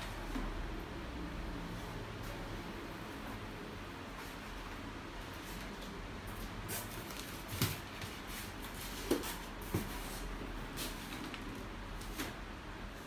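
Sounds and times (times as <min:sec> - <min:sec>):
steady room hiss: 0:00.0 - 0:13.0.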